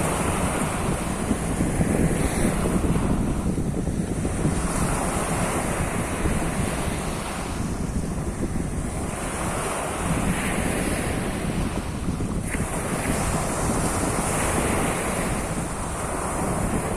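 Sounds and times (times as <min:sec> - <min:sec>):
waves washing onto shore: 0:00.0 - 0:16.9
wind buffeting microphone: 0:00.0 - 0:16.9.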